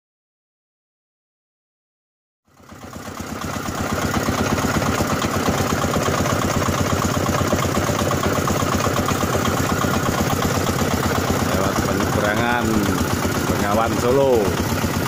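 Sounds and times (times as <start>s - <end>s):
boat diesel engine running: 2.5s - 15.0s.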